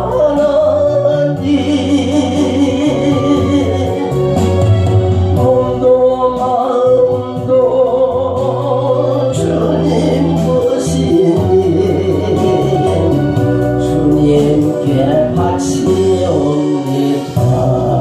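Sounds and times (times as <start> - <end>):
man singing gospel song: 0.0 - 18.0
musical accompaniment with bass: 0.0 - 18.0.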